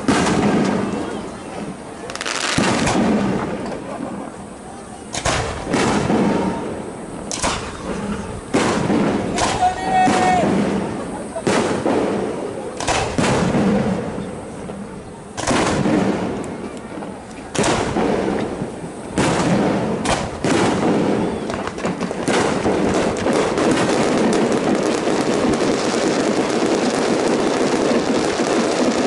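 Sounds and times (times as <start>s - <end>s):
firework crackling: 0.0s - 29.0s
firework shells bursting: 0.0s - 29.0s.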